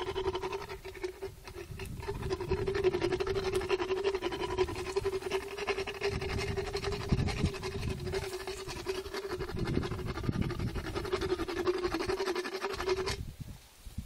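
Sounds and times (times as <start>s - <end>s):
motorized dental float grinding: 0.0s - 13.2s.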